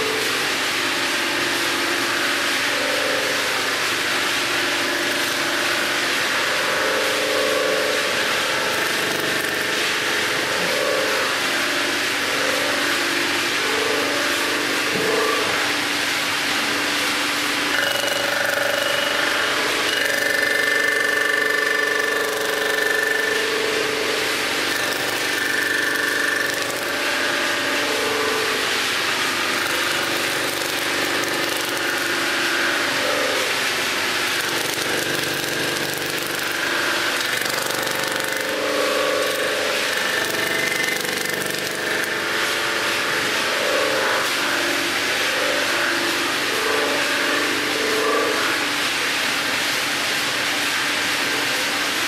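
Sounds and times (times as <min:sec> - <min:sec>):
resurfacing machine cutting metal: 0:00.0 - 0:48.7.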